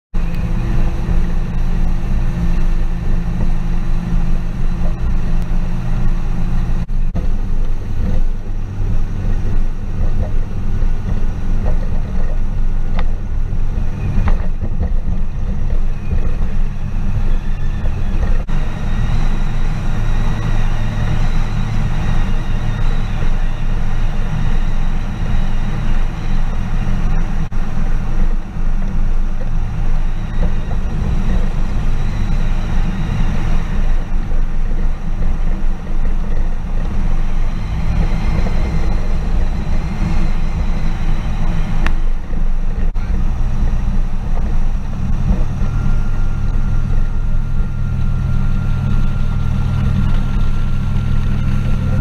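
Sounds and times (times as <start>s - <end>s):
outboard motor running: 0.1s - 52.0s
rushing wind: 0.1s - 52.0s.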